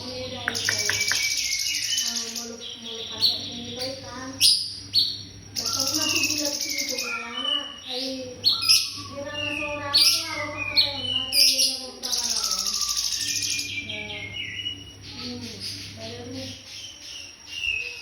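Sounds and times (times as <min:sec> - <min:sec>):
songbird chirping and whistling: 0:00.1 - 0:18.0.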